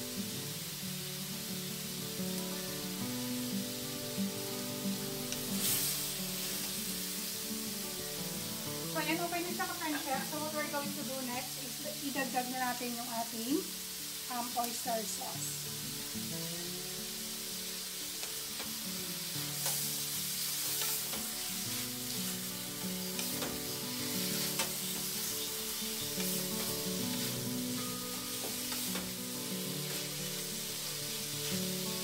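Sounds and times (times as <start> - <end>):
food sizzling in a wok: 0.0 - 32.0.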